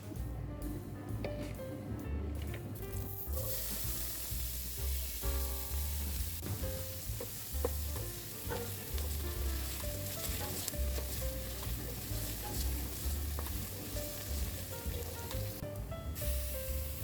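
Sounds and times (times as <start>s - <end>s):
background music: 0.0s - 17.0s
food sizzling in hot oil: 2.9s - 17.0s.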